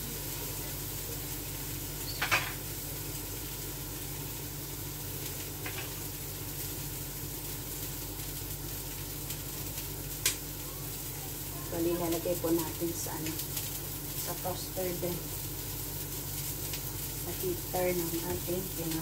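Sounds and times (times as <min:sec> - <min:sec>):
patties sizzling in a pan: 0:00.0 - 0:19.0.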